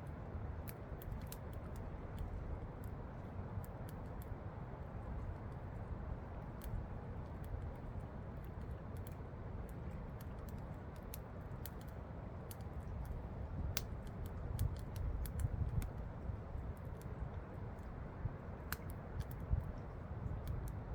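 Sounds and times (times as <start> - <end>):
campfire crackling and popping: 0.5 - 4.4, 5.0 - 20.9.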